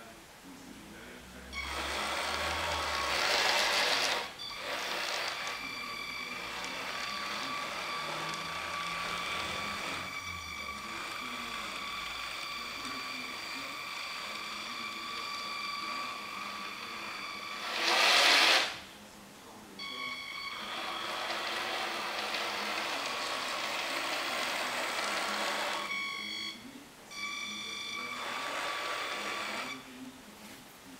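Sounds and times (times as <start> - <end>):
electric motor and gear whine: 1.6 - 18.7, 19.8 - 26.6, 27.2 - 29.9.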